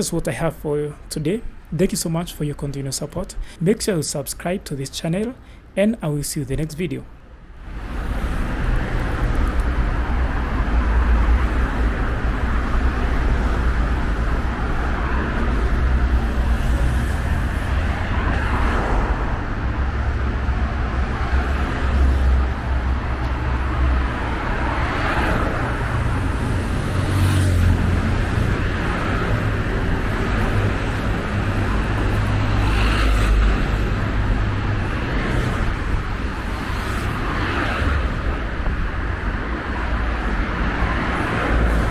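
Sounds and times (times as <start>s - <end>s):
road traffic rumble: 0.0s - 41.9s
vehicles passing: 0.0s - 41.9s.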